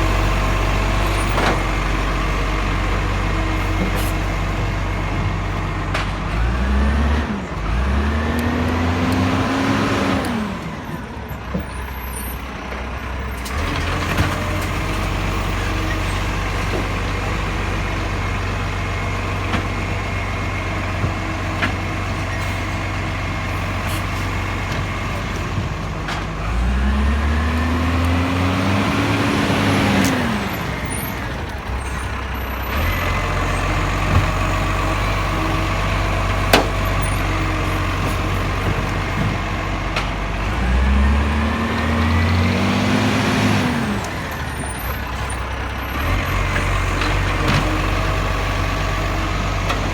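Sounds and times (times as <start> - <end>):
diesel truck engine revving: 0.0 - 49.9.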